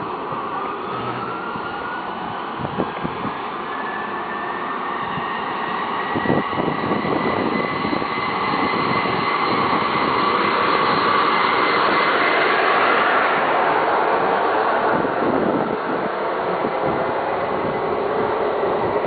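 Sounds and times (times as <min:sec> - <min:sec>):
vehicle road and wind noise: 0:00.0 - 0:19.0.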